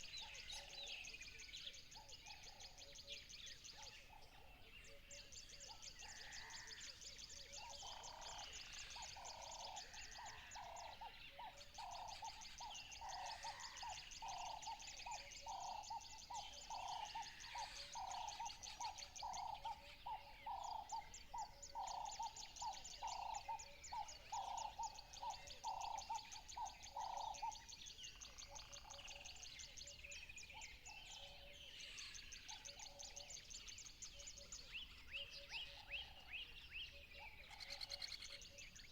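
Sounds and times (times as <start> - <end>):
bird chirps: 0.0 - 38.9.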